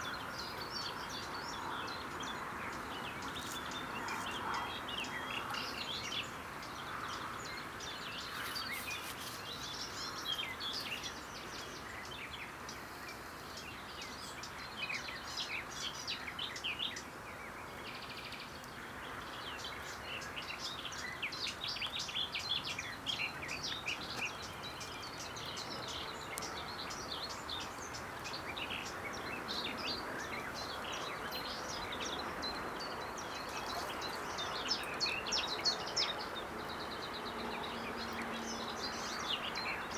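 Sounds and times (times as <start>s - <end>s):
birds chirping and singing: 0.0s - 39.9s
steady background hiss: 0.0s - 39.9s.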